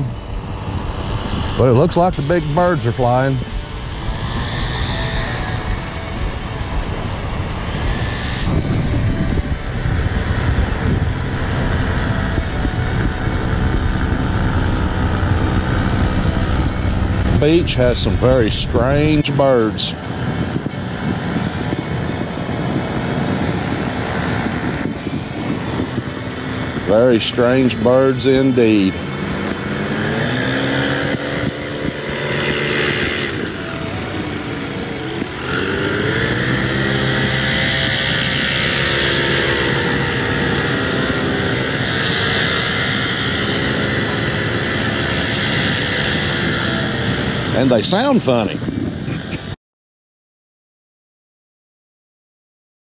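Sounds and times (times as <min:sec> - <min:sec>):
paramotor engine droning: 0:00.0 - 0:49.6.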